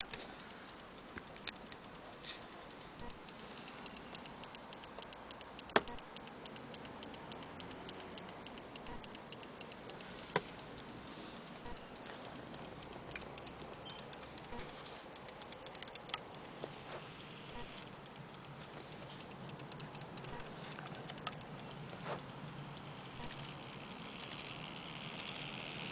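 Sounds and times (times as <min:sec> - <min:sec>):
clock ticking: 0:00.0 - 0:25.9.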